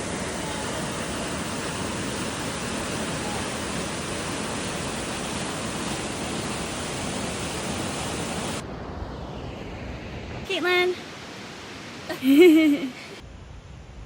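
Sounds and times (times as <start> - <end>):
rushing water: 0.0 - 8.6, 10.4 - 13.2.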